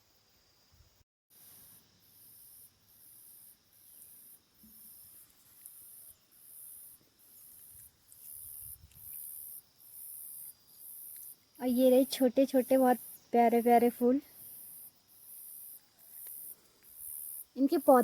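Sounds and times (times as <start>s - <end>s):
insect calling in high pulses: 1.4s - 18.0s.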